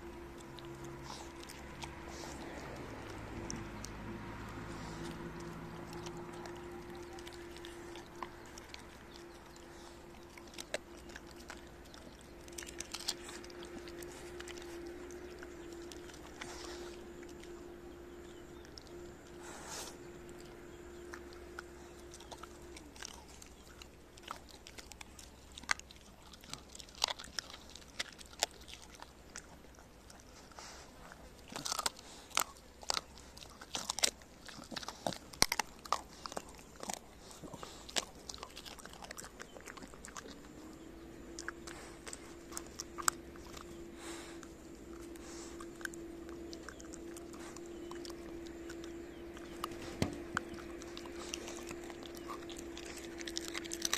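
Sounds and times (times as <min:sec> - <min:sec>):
dog crunching bones: 0:00.0 - 0:53.9.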